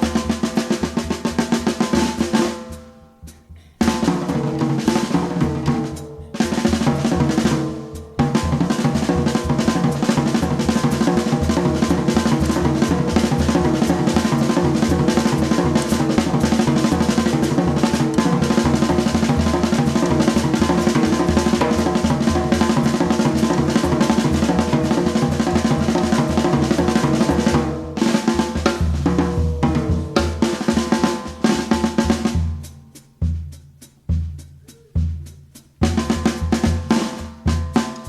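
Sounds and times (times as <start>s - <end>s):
snare and bass drum: 0.0s - 38.0s.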